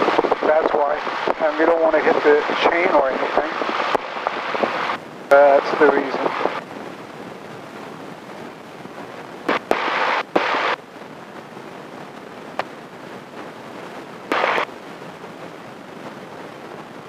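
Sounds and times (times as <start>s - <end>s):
plane engine and propeller: 0.0s - 17.0s
static-like hiss bursts: 0.0s - 17.0s.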